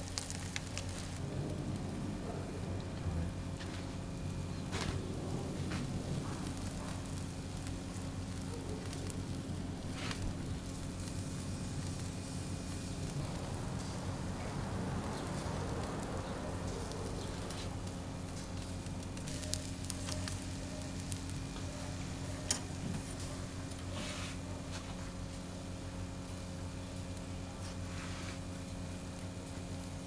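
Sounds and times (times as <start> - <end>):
fish sizzling on a grill: 0.0 - 30.0
steady low hum: 0.0 - 30.0.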